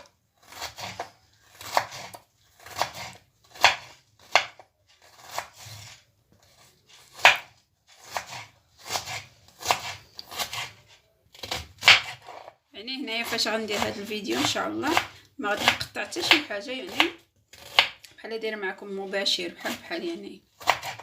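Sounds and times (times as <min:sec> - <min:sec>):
knife slicing vegetables: 0:00.0 - 0:18.1, 0:19.2 - 0:21.0.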